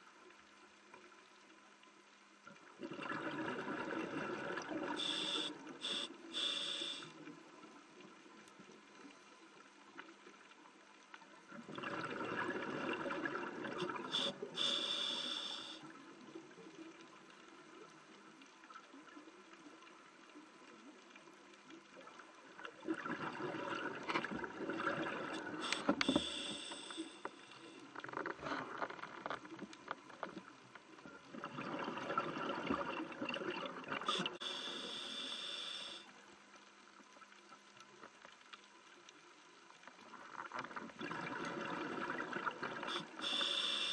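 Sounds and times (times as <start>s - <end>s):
underwater exhaust bubbles: 2.5s - 28.6s, 29.2s - 38.3s, 39.9s - 43.9s.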